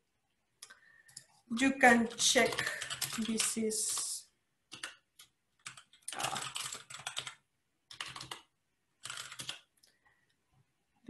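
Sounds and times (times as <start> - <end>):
typing on a computer keyboard: 0.6 - 10.0.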